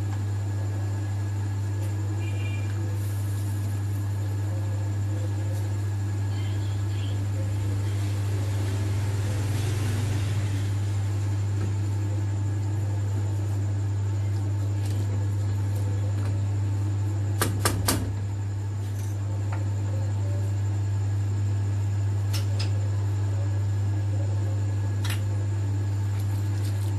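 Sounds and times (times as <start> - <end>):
low mechanical hum: 0.0 - 26.9.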